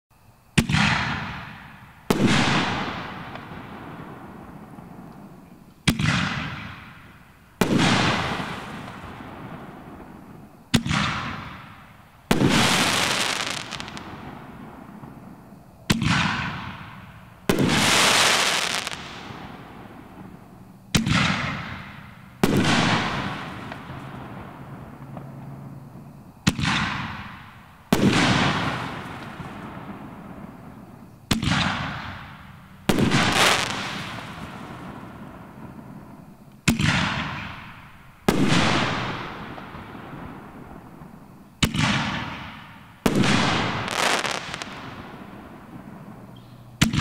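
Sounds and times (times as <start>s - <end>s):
firework crackle: 2.0s - 47.0s.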